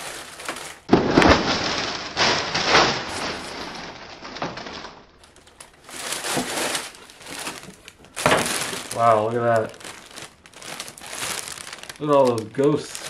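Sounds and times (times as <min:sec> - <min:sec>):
plastic bag rustling and crinkling: 0:00.0 - 0:13.0.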